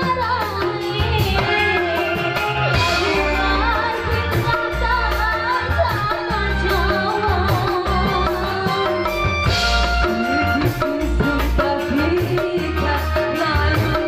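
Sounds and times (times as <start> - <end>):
bass guitar: 0.0 - 14.0
drum and cymbal beat: 0.0 - 14.0
electric guitar: 0.0 - 14.0
woman singing: 0.0 - 14.0.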